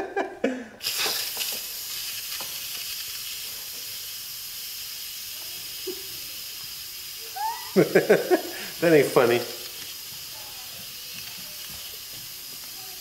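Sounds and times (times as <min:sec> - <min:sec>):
steam hissing from valve: 0:00.8 - 0:13.0.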